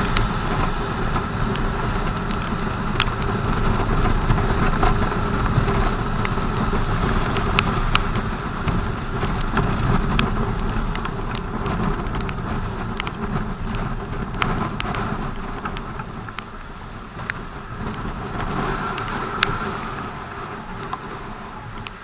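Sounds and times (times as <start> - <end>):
motorcycle engine rumble: 0.0 - 22.0
road noise: 0.0 - 22.0
sharp ticks: 0.0 - 22.0.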